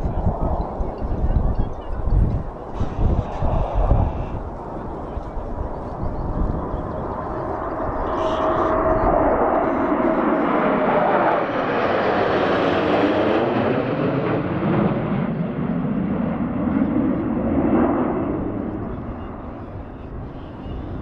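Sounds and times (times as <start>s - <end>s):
jet fighters passing overhead: 0.0s - 21.0s.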